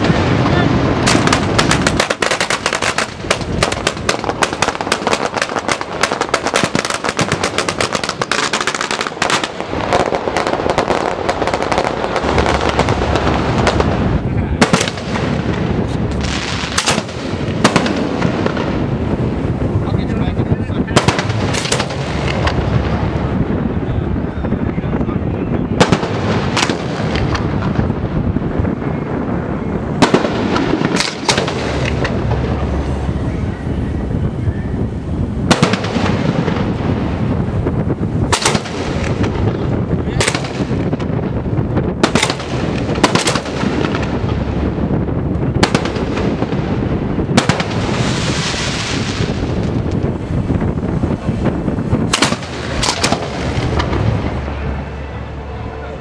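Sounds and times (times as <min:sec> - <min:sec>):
fireworks shells exploding: 0:00.0 - 0:23.9, 0:25.7 - 0:33.5, 0:34.2 - 0:55.0
steady low rumble: 0:00.0 - 0:56.0.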